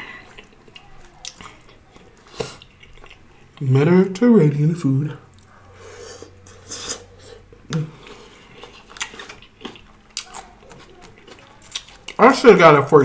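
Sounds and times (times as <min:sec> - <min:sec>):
chewing crisp lettuce: 0:00.0 - 0:03.7, 0:05.3 - 0:12.9.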